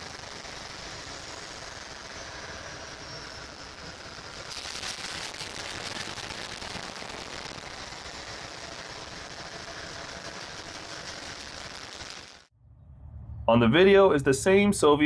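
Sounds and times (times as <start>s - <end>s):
exhaust crackling: 0.0s - 12.5s
loud hissing rush: 0.0s - 12.5s.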